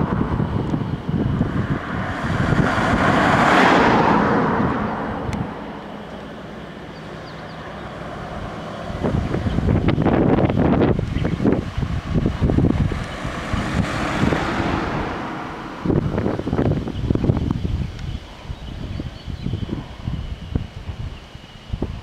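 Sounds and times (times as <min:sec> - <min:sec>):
car passing on asphalt: 0:00.0 - 0:21.6
wind rumbling on microphone: 0:00.0 - 0:22.0.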